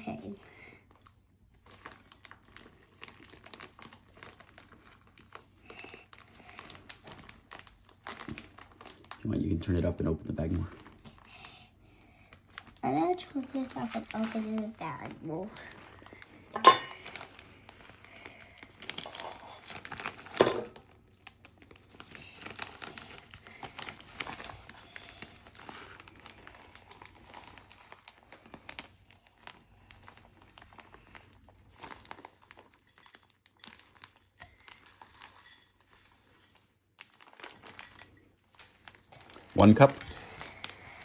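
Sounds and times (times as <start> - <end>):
plastic bag crinkling: 0.0 - 41.0.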